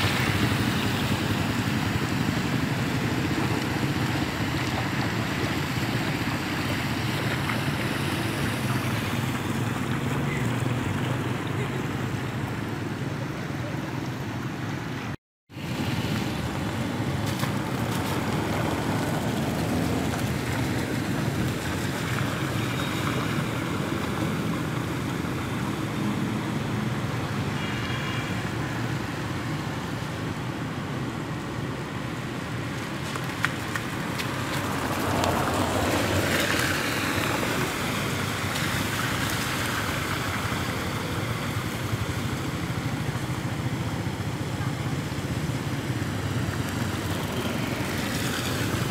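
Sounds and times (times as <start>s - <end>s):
traffic noise: 0.0s - 48.9s
vehicles driving through floodwater: 0.0s - 48.9s.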